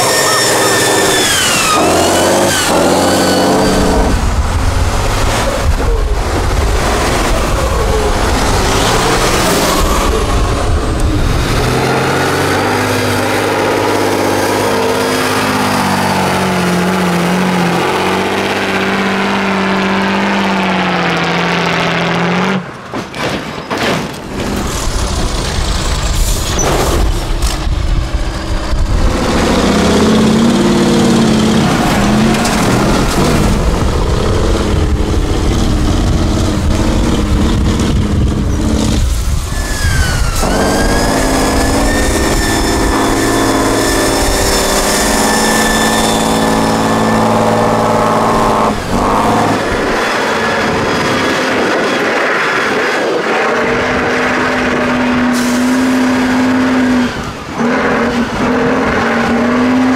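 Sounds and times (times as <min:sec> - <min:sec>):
diesel truck engines revving: 0:00.0 - 0:59.9.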